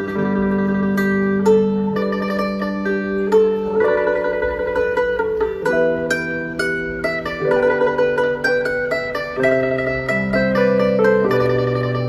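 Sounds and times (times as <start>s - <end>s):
held electronic keyboard notes: 0.0s - 12.0s
pipa plucking melody: 0.0s - 12.0s.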